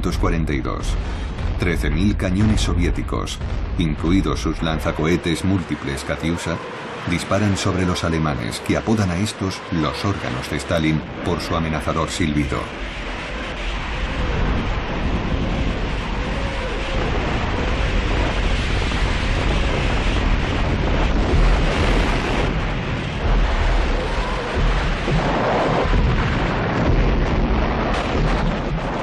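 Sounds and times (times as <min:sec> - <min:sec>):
artillery firing and explosions: 0:00.0 - 0:29.0.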